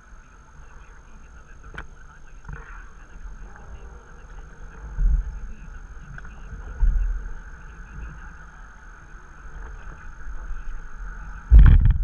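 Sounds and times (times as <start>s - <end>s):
steady hiss: 0.0s - 12.0s
wind rumbling on microphone: 0.0s - 12.0s.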